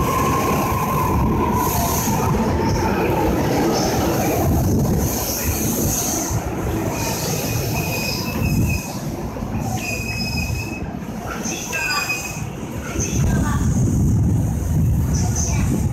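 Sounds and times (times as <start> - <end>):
high-pitched train whine: 0.0 - 14.2
train wheels rumbling on rails: 0.0 - 15.9.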